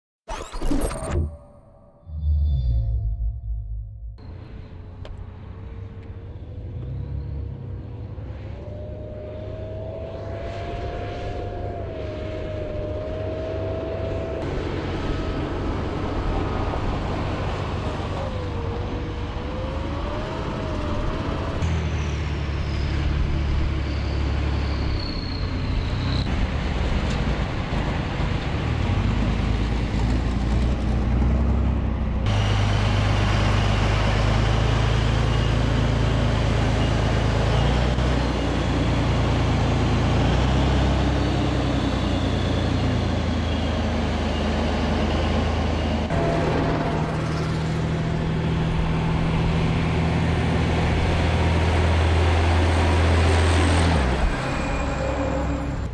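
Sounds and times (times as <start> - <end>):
wavering engine whine: 0.3 - 55.9
diesel truck engines rumbling: 4.2 - 55.9.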